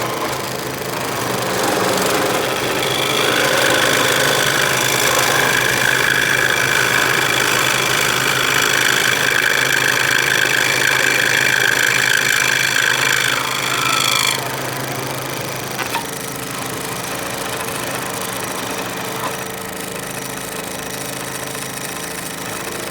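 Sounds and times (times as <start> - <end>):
scroll saw cutting wood: 0.0 - 22.9.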